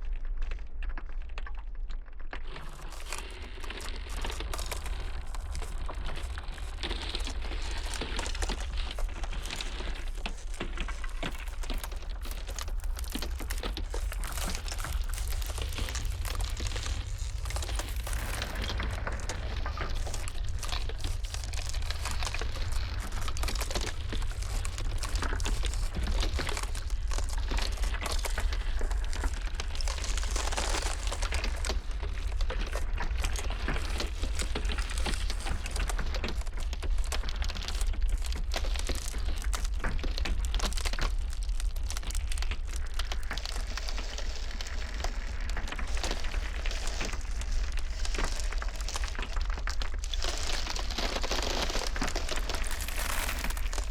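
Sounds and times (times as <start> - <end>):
ice cracking and crackling: 0.0 - 53.9.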